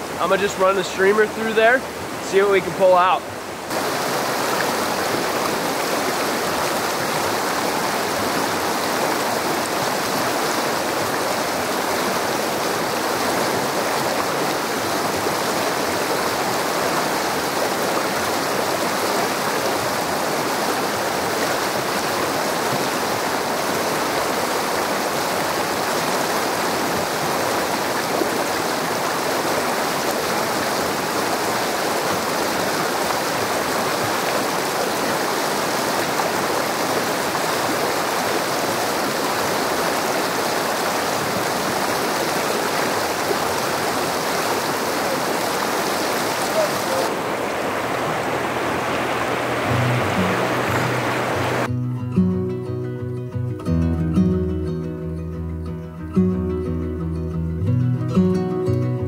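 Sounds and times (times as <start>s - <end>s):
river rushing over rocks: 0.0s - 51.7s.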